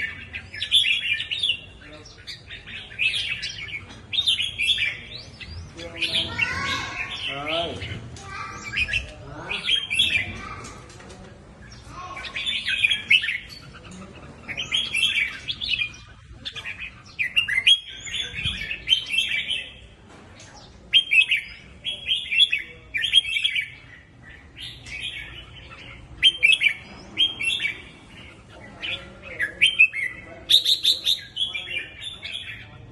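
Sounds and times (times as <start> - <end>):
bird singing warbled phrases: 0.0 - 32.9.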